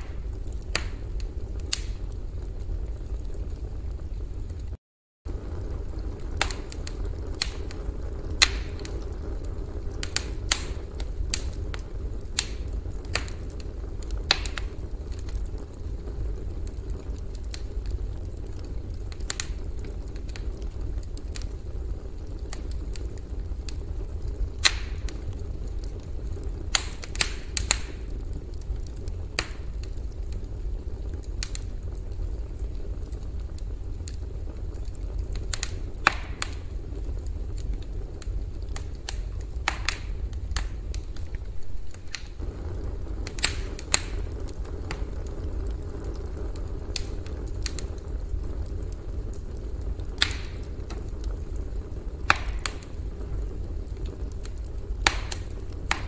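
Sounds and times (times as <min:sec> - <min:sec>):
campfire crackling and popping: 0:00.0 - 0:56.0
low fire rumble: 0:00.0 - 0:56.0.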